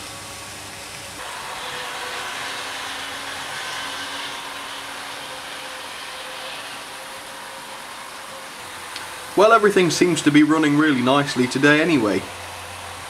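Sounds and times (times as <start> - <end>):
model train motors whirring: 0.0 - 13.0
wheels running on rails: 0.0 - 13.0.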